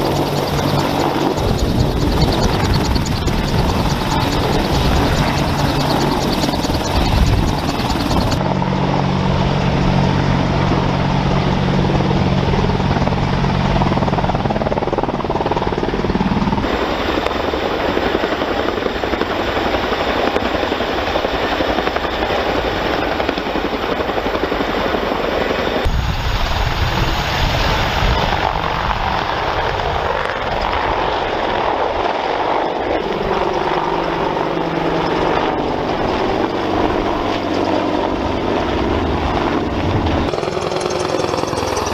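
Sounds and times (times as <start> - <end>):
helicopter turbine and rotor: 0.0 - 41.9.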